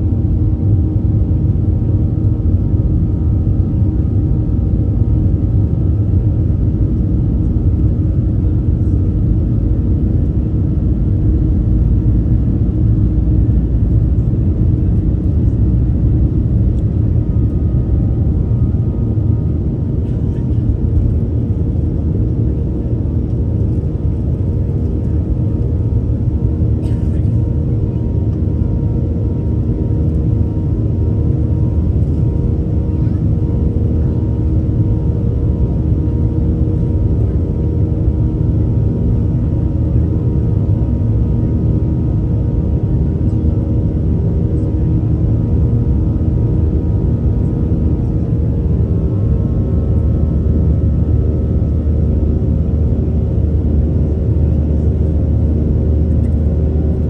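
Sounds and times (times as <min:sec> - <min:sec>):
faint steady drone: 0:00.0 - 0:57.0
jet engine rumble in cabin: 0:00.0 - 0:57.0.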